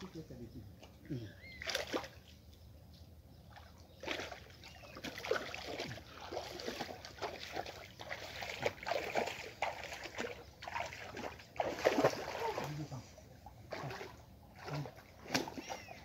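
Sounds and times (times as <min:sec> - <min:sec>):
wading through shallow water: 0:00.0 - 0:16.0.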